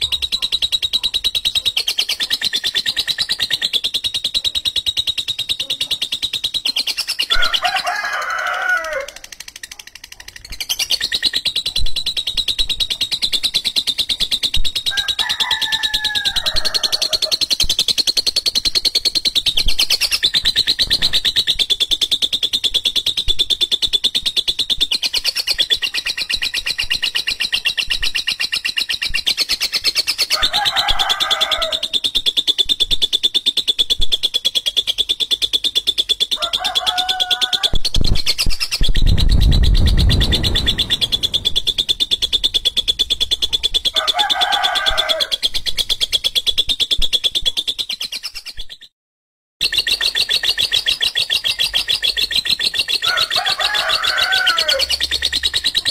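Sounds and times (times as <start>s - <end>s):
bird chattering trill: 0.0s - 48.9s, 49.6s - 55.9s.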